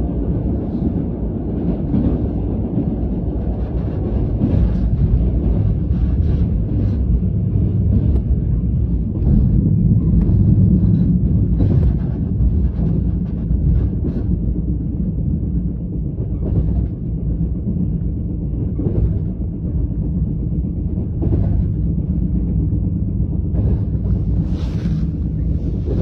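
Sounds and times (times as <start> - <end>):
steady low rumble: 0.0 - 26.0
wind noise on microphone: 0.0 - 26.0.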